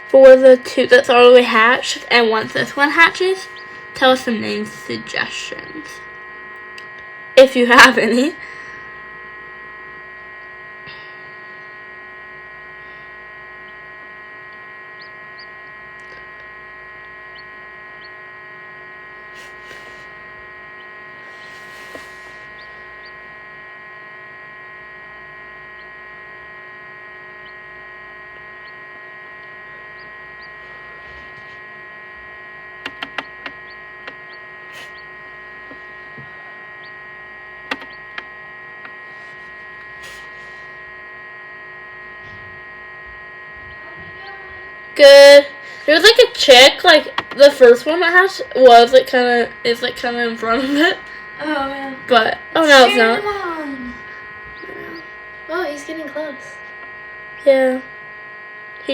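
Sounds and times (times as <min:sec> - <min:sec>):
incubator electric hum: 0:00.0 - 0:58.9.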